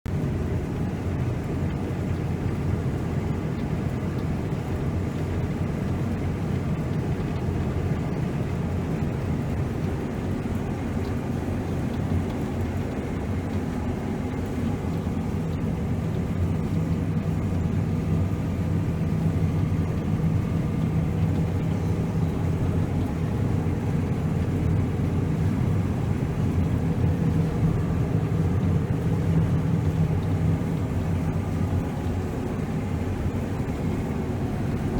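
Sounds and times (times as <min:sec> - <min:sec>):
diesel engine drone: 0:00.1 - 0:34.9.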